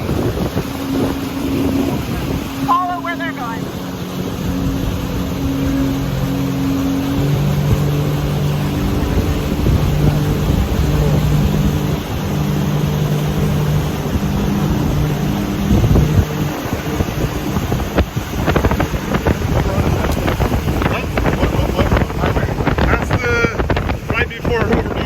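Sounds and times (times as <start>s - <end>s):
motorboat engine running: 0.0s - 25.0s
wind buffeting microphone: 0.0s - 25.0s.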